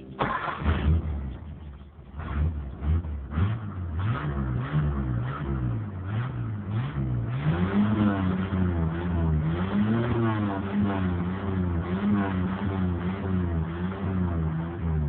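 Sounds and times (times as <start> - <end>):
engine revving in throttle blips: 0.0 - 15.0.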